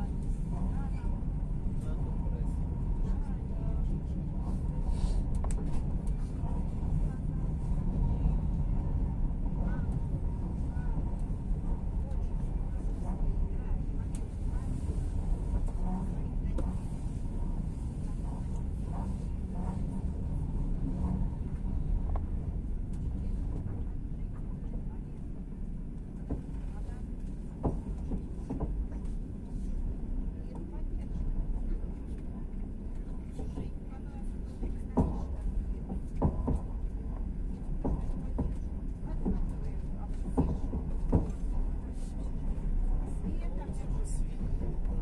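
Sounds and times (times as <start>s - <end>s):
train rumble inside carriage: 0.0s - 45.0s.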